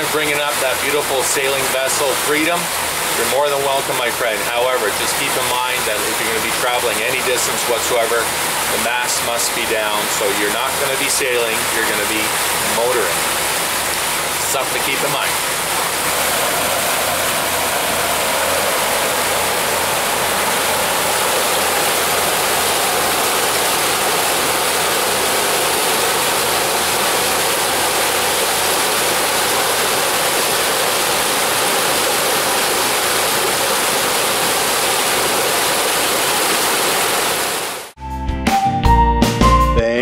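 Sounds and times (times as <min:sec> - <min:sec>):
faint boat engine drone: 0:00.0 - 0:36.0
boat wake churning: 0:00.0 - 0:38.0.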